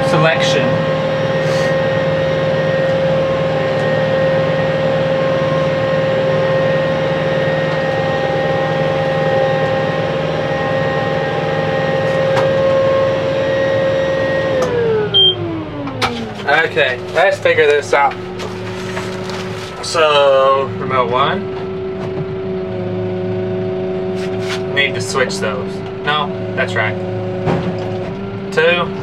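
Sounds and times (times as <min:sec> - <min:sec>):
high drivetrain whine: 0:00.0 - 0:29.0
tractor diesel engine running: 0:00.0 - 0:29.0.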